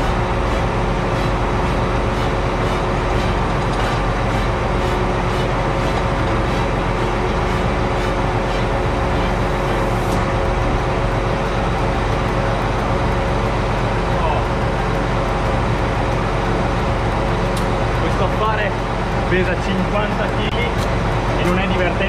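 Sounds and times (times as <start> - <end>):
diesel tractor engine idling: 0.0 - 22.0.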